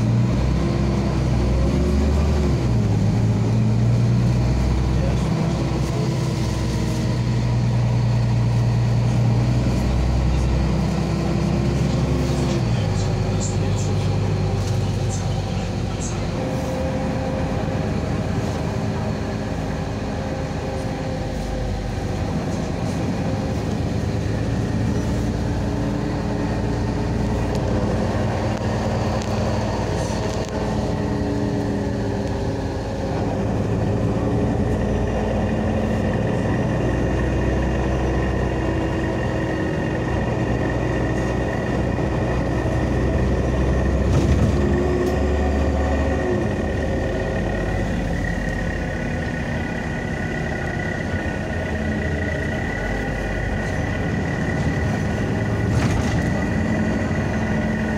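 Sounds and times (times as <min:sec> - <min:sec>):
bus cabin rumble: 0:00.0 - 0:57.9.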